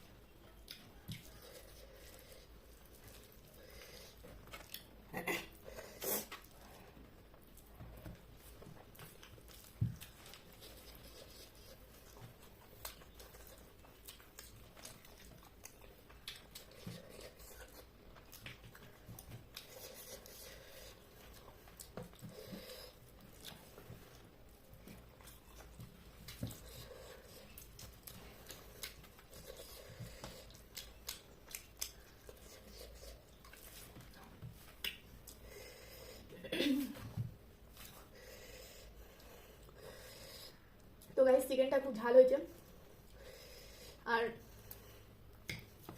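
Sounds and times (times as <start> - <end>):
person chewing food: 0.0 - 41.2, 42.6 - 45.9.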